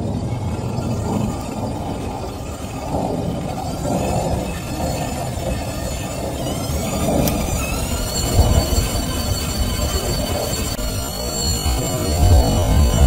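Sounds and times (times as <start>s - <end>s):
high motor whine: 0.0s - 13.0s
toy motor and plastic gears rattling: 0.0s - 13.0s.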